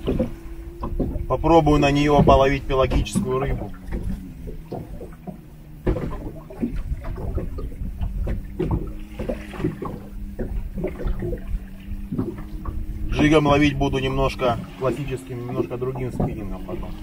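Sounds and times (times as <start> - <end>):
steady low hum: 0.0 - 17.0
water splashing against boat: 0.0 - 17.0.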